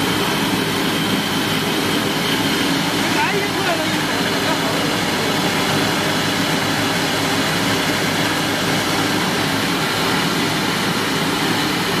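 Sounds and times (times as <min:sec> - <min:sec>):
rice milling machine humming: 0:00.0 - 0:12.0.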